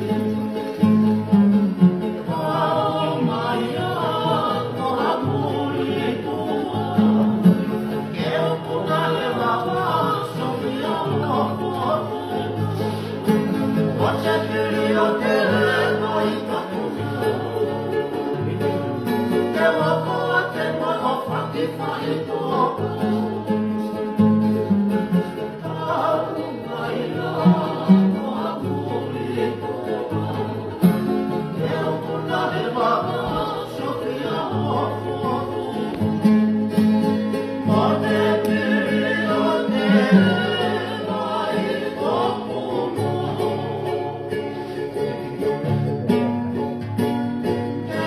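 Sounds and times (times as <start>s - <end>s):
strummed acoustic guitars: 0.0s - 48.0s
ukulele: 0.0s - 48.0s
men singing in harmony: 2.1s - 24.5s, 25.3s - 36.4s, 37.0s - 45.6s, 47.8s - 48.0s.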